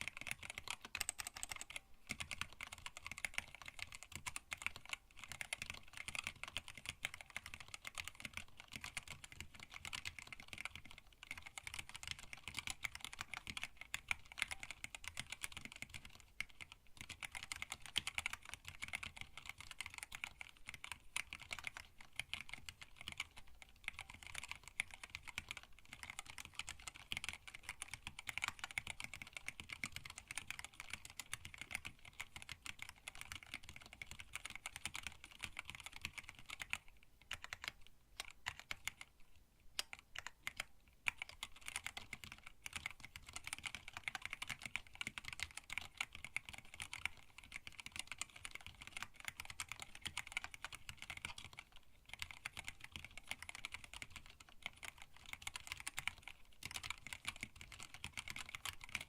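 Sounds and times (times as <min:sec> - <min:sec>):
fast typing on mechanical keyboard: 0:00.0 - 0:39.2, 0:39.8 - 0:59.0.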